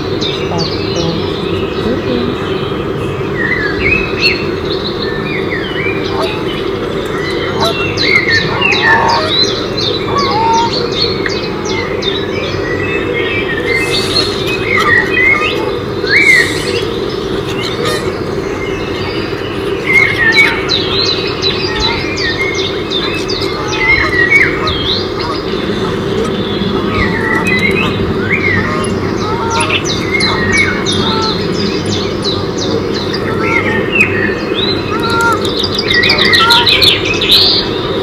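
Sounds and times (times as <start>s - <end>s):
birds chirping and squawking: 0.0s - 38.0s
steady low hum: 0.0s - 38.0s.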